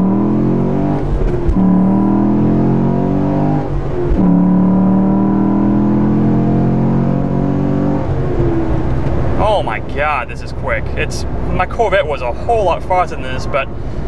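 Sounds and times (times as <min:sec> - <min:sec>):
car engine at full throttle: 0:00.0 - 0:14.0.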